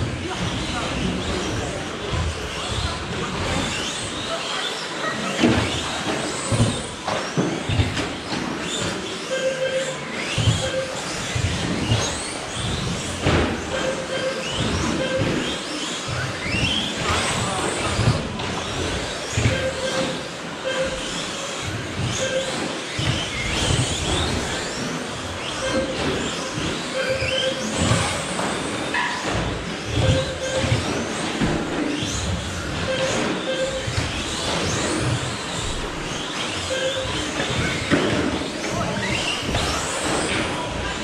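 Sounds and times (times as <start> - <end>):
rc truck motors whining: 0.0 - 41.0.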